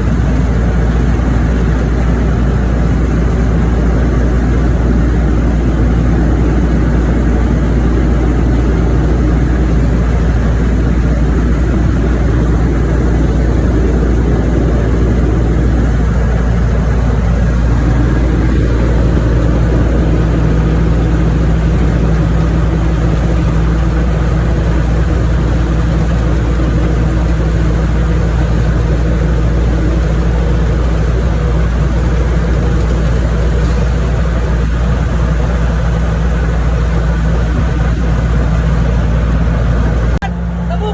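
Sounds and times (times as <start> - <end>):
engine running steadily: 0.0 - 40.9.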